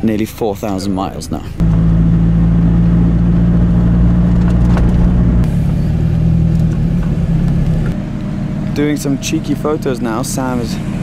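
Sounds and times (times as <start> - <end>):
car engine droning: 1.6 - 11.0.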